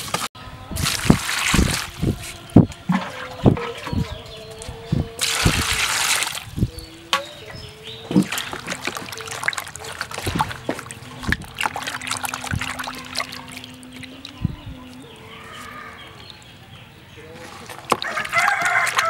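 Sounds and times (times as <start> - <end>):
fish splashing in water basin: 0.0 - 4.0, 5.2 - 15.2, 17.3 - 19.0.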